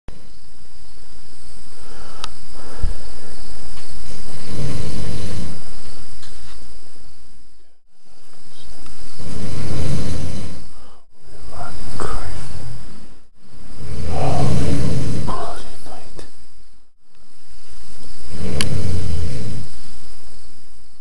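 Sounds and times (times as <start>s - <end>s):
man snoring: 0.1s - 6.6s, 7.2s - 16.5s, 17.3s - 20.8s.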